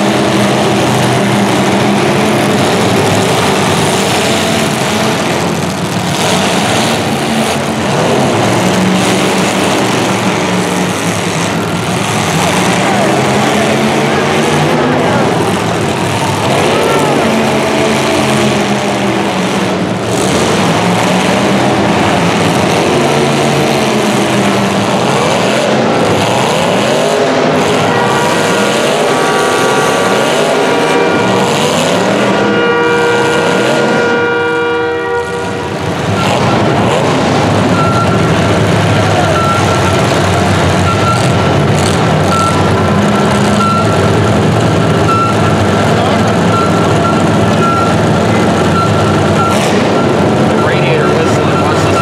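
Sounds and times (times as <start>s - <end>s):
vehicle engines revving: 0.0s - 52.0s.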